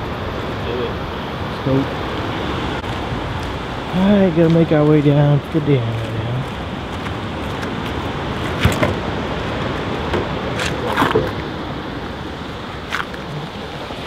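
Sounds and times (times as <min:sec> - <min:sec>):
rain falling: 0:01.6 - 0:14.0.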